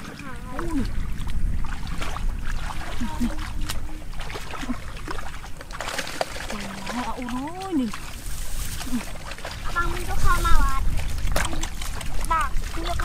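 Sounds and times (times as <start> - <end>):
hands splashing in muddy water: 0.0 - 13.0.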